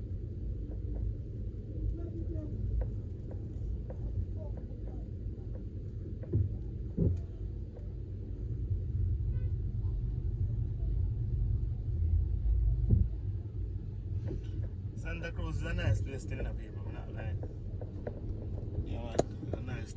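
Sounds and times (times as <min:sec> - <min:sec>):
car engine and road rumble: 0:00.0 - 0:19.9.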